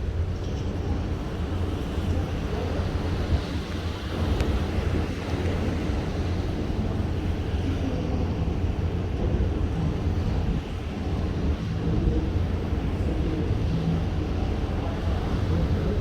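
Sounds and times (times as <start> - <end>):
sea noise: 0.0 - 16.0
ship engine low rumble: 0.0 - 16.0
wind: 0.0 - 16.0.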